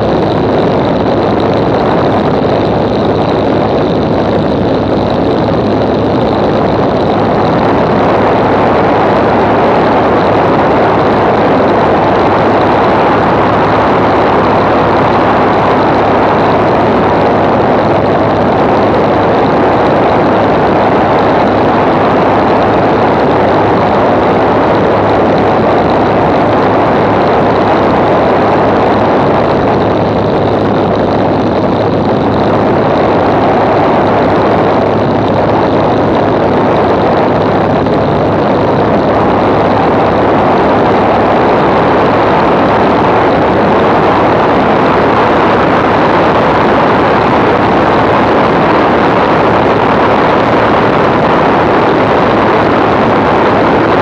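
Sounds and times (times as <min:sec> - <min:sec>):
propeller plane engine: 0:00.0 - 0:54.0
wind on microphone: 0:00.0 - 0:54.0.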